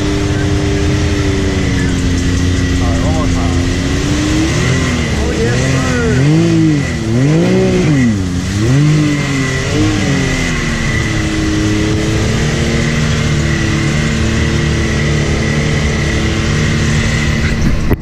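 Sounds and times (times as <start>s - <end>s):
vehicle engine revving: 0.0s - 18.0s
wind and tyre noise: 0.0s - 18.0s.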